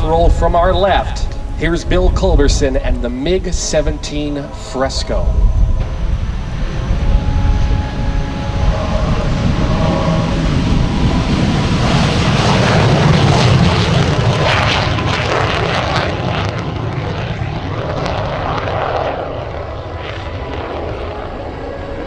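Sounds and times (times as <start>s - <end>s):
jet engine on takeoff: 0.0s - 22.0s.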